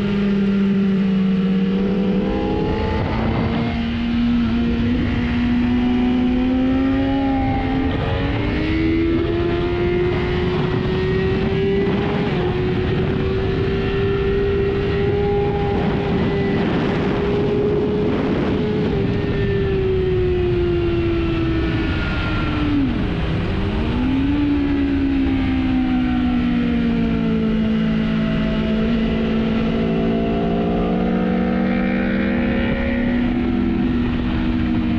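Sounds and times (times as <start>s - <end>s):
motorcycle engine at high revs: 0.0s - 34.9s
wind noise: 0.0s - 34.9s.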